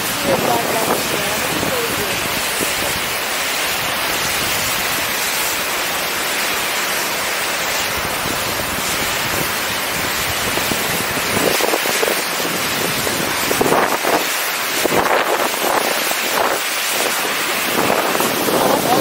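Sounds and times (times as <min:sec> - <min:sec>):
wind buffeting microphone: 0:00.0 - 0:05.2, 0:08.0 - 0:19.0.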